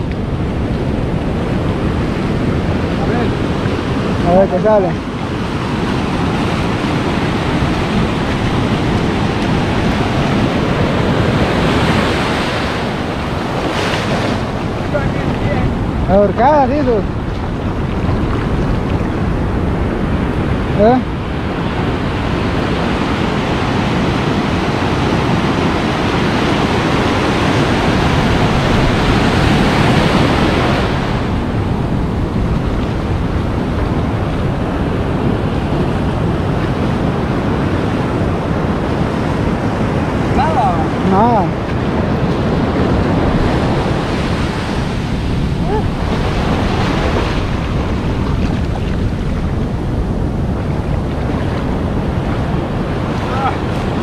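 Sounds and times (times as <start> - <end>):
ocean surf breaking: 0.0 - 54.0
wind noise on microphone: 0.0 - 54.0.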